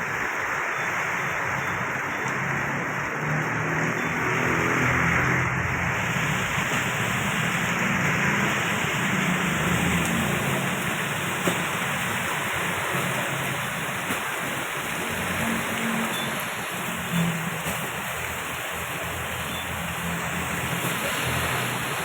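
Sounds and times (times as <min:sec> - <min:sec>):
heavy rain falling: 0:00.0 - 0:22.0
road traffic rumble: 0:00.0 - 0:22.0.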